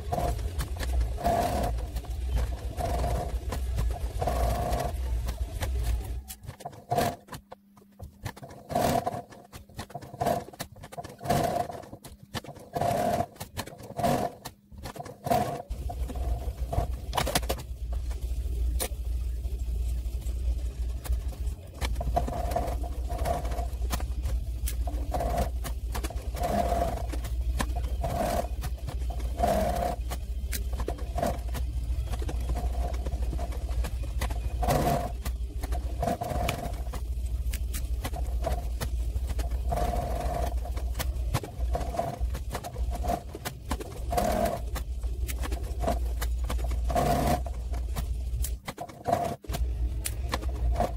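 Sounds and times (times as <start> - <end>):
sewing machine clicks and whirring: 0.0 - 50.9
steady low hum: 0.0 - 50.9.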